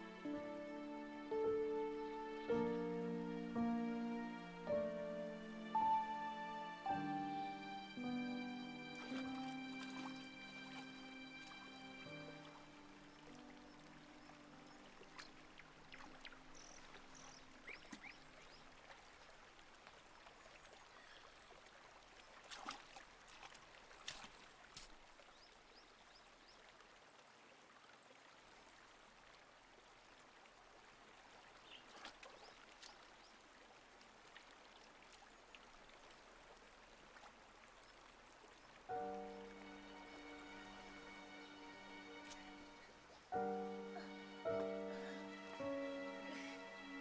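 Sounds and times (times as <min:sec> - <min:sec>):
stream trickling over rocks: 0:04.4 - 0:47.0.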